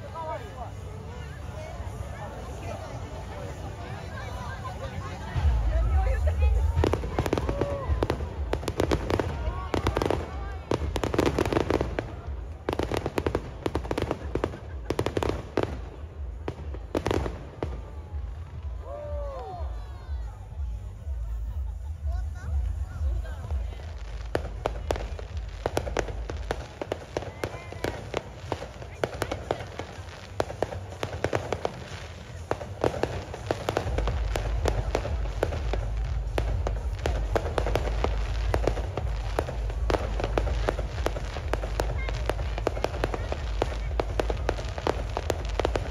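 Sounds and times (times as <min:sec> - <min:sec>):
fireworks bursting: 0:00.0 - 0:45.9.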